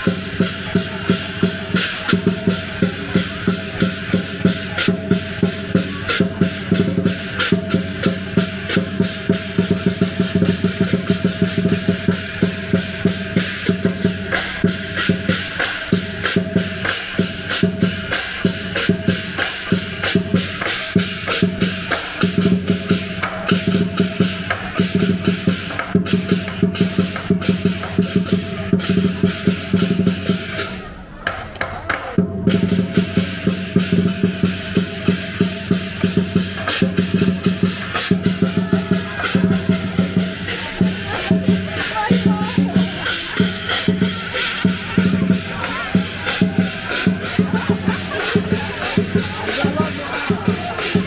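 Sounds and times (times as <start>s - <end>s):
crashing cymbals: 0.0s - 31.4s, 32.2s - 51.0s
drum beating fast rhythm: 0.0s - 51.0s.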